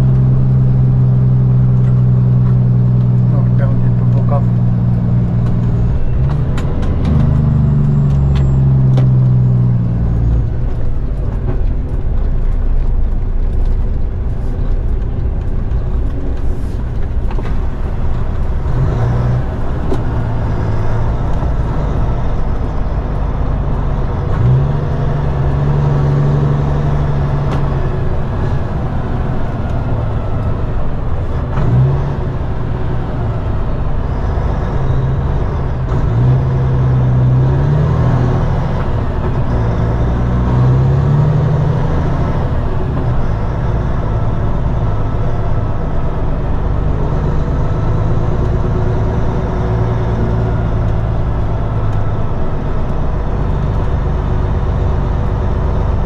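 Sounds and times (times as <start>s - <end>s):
truck diesel engine from cab: 0.0s - 56.0s.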